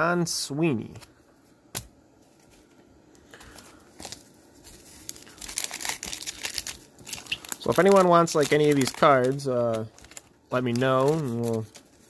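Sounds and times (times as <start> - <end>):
paper wrapper crinkling: 2.3 - 12.0.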